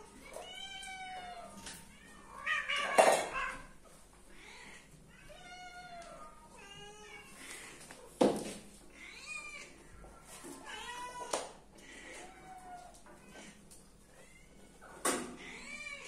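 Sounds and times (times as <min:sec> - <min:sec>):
cats yowling: 0:00.0 - 0:07.7, 0:08.9 - 0:16.0.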